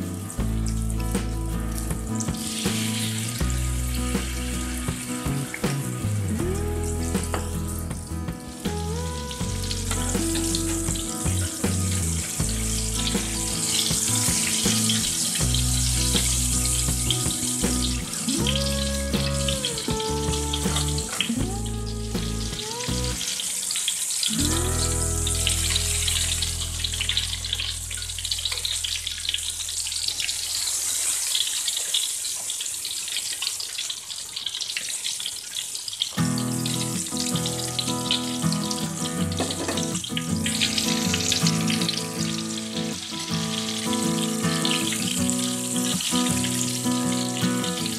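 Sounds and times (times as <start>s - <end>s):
deep-frying sizzle in oil: 0.0s - 21.1s, 22.1s - 47.9s
background music: 0.0s - 29.3s, 36.2s - 47.9s.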